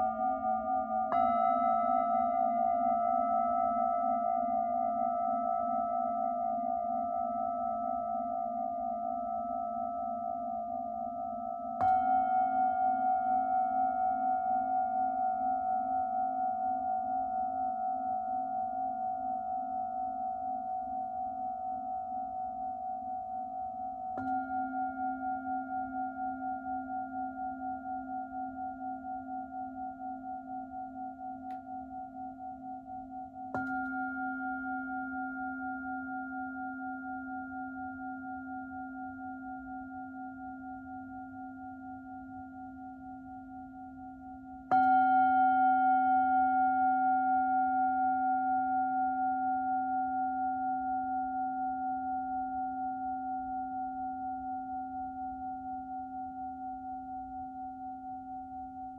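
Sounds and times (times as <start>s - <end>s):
singing bowl ringing: 0.0s - 58.9s.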